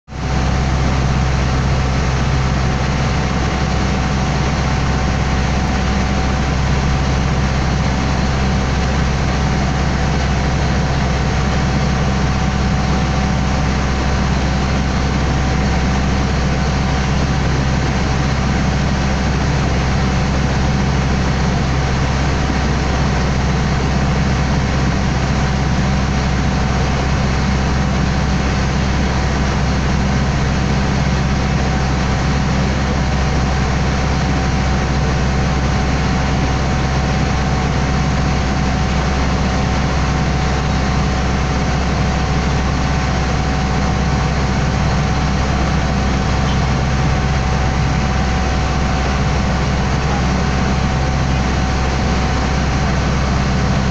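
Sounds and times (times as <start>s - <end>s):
boat engine droning: 0.1s - 53.9s
faint steady whine: 0.2s - 53.9s.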